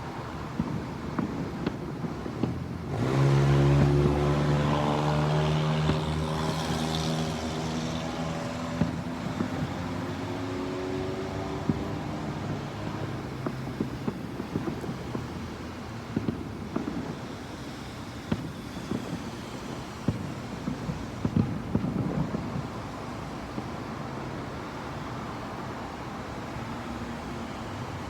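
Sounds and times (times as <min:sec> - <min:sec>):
distant fireworks popping: 0:00.0 - 0:28.0.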